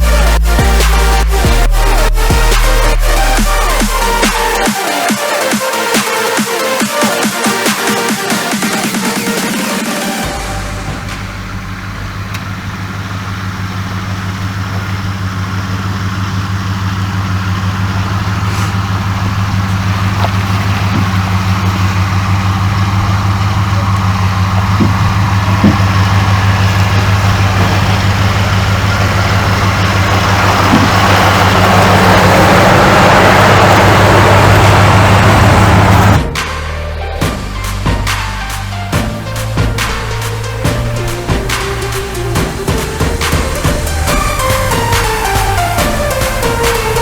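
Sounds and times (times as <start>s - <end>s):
vehicle engine humming: 0.0s - 47.0s.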